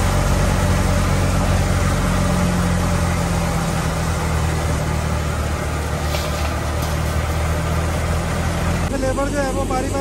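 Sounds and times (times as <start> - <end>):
thresher engine drone: 0.0 - 10.0.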